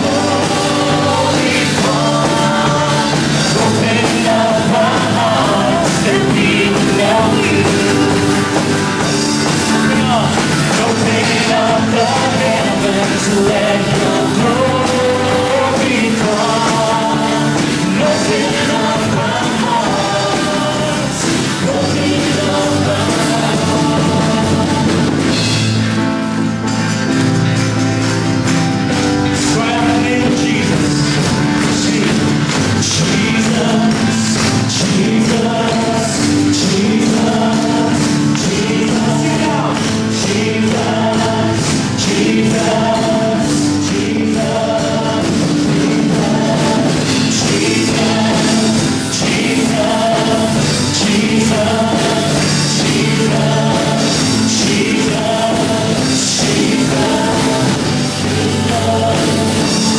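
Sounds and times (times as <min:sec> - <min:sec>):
singers with a band: 0:00.0 - 0:26.8, 0:27.7 - 0:59.9.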